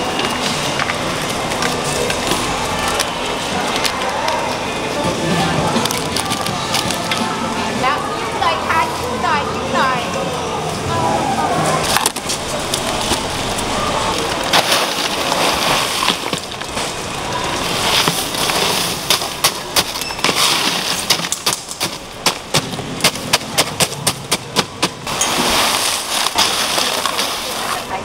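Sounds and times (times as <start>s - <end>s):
ice crunching and scraping: 0.0s - 7.8s, 11.6s - 28.0s.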